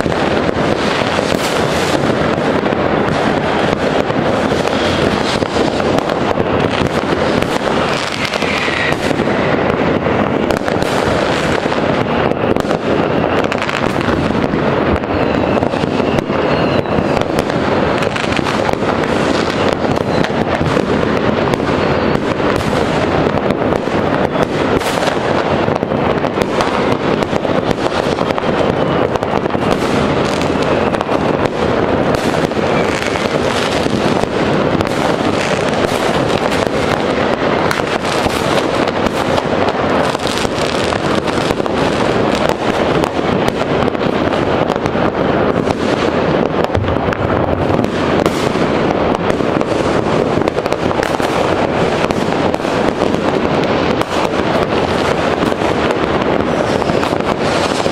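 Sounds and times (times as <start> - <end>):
fireworks crackling and banging: 0.0 - 57.9.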